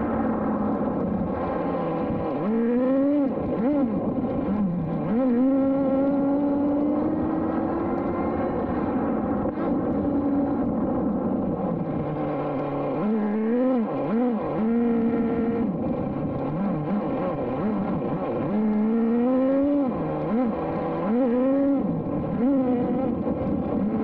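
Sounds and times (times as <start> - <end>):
small nitro engine revving: 1.2 - 10.7, 11.3 - 24.0.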